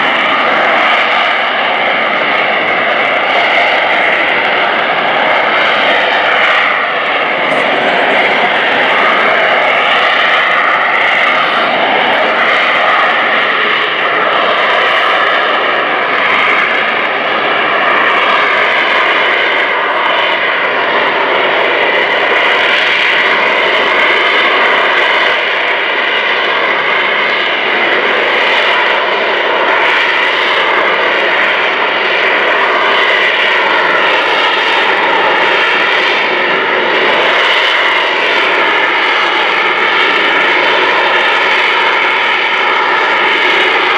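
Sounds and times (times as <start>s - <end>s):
jet engine roar with whining: 0.0s - 43.9s.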